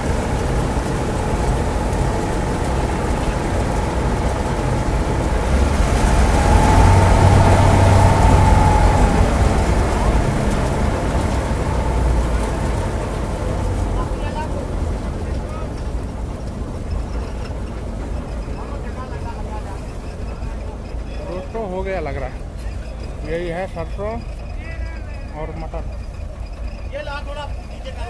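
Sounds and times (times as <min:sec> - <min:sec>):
combine harvester drone: 0:00.0 - 0:28.0
faint machine whine: 0:00.0 - 0:28.0.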